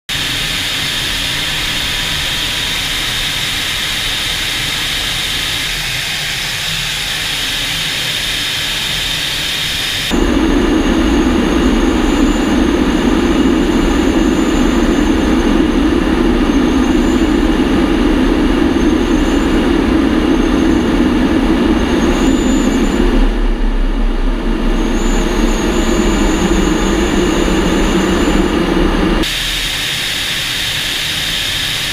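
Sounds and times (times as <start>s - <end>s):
jet engine noise: 0.1s - 31.9s.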